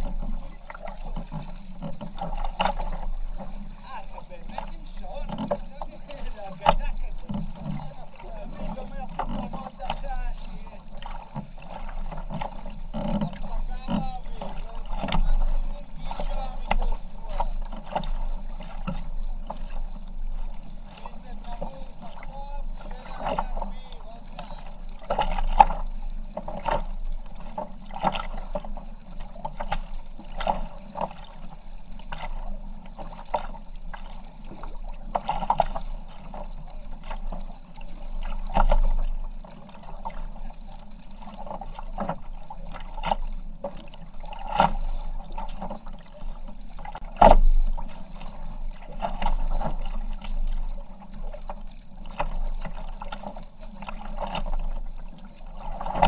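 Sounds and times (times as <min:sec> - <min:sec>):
paddle knocks: 0:00.0 - 0:56.0
paddle splashing in water: 0:00.0 - 0:56.0.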